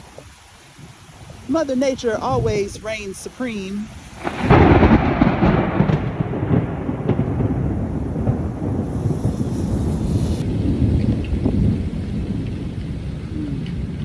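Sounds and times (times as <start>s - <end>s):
rain falling: 0.0s - 14.0s
thunder rumbling: 0.8s - 14.0s.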